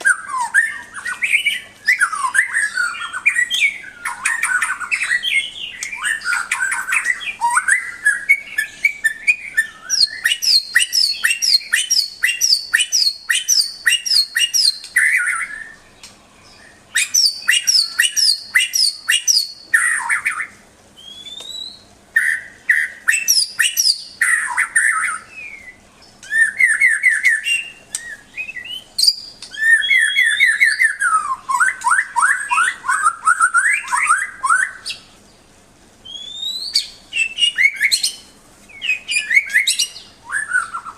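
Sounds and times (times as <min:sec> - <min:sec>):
bird singing trills and whistles: 0:00.0 - 0:40.9.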